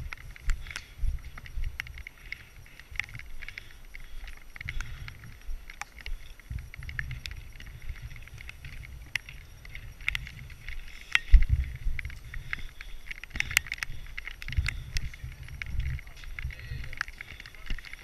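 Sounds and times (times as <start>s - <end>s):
light clicks and taps: 0.0s - 18.0s
wind buffeting microphone: 0.0s - 18.0s.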